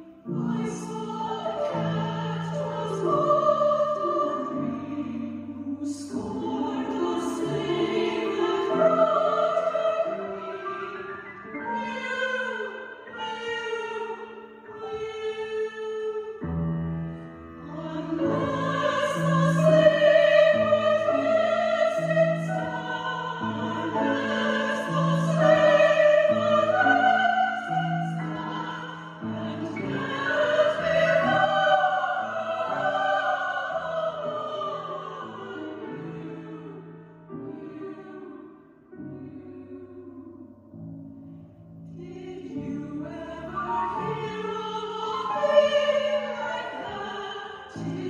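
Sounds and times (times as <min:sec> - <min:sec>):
operatic singing: 0:00.0 - 0:16.5, 0:17.6 - 0:40.7, 0:42.0 - 0:48.0
classical accompaniment: 0:00.0 - 0:48.0.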